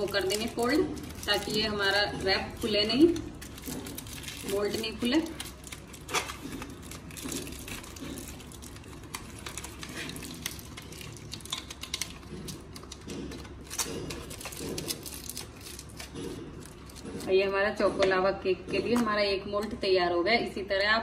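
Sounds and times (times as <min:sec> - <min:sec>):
aluminium foil crinkling: 0:00.0 - 0:17.5.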